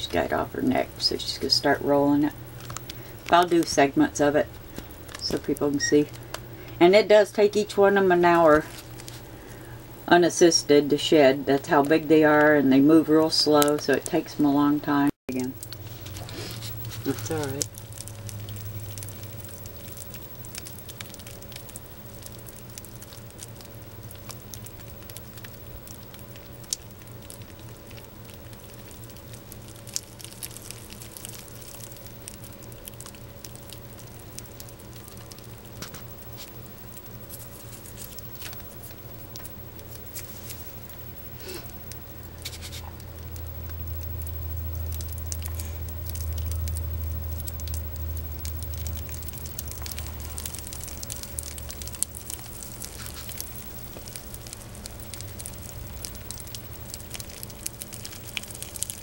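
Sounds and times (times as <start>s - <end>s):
faint crackles and ticks: 0.0s - 59.0s
steady low hum: 0.0s - 59.0s.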